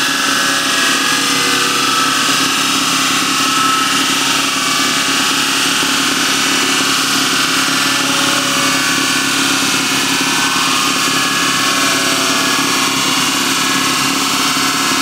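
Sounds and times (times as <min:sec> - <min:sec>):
loud car engine running: 0:00.0 - 0:15.0.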